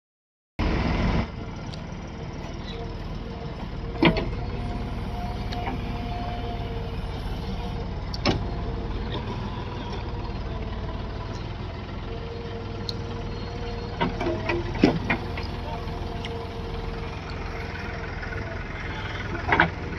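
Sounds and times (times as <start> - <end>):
heavy diesel engine running: 0.6 - 19.9.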